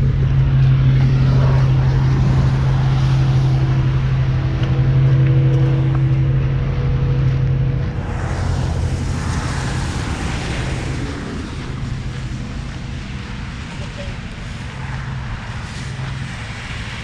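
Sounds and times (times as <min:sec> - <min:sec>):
car engine drone: 0:00.0 - 0:17.0
road and wind noise: 0:00.0 - 0:17.0.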